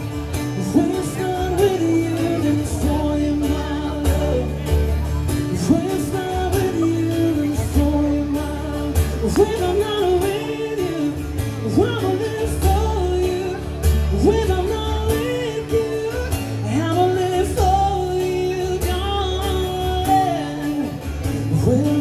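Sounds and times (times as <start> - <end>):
amplified guitar: 0.0 - 22.0
man singing: 0.0 - 22.0.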